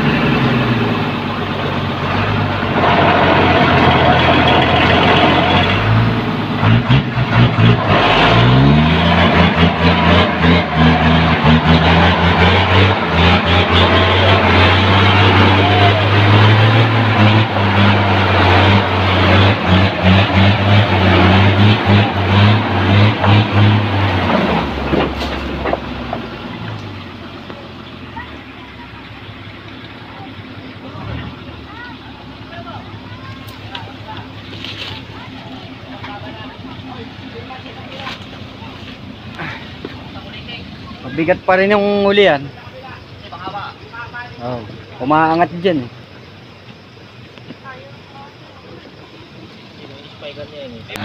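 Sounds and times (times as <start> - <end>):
truck engine revving under load: 0.0 - 48.3, 48.9 - 51.0.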